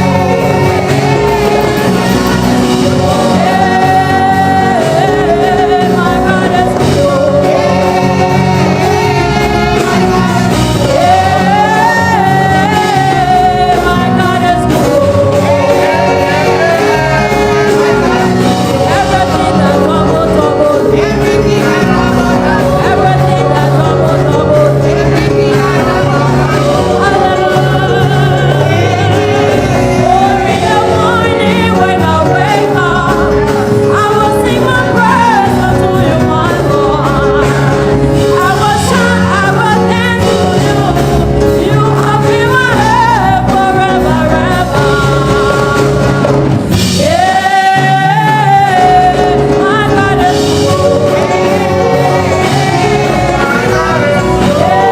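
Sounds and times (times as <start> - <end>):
band with steady bass: 0.0 - 54.9
person singing gospel song: 0.0 - 54.9.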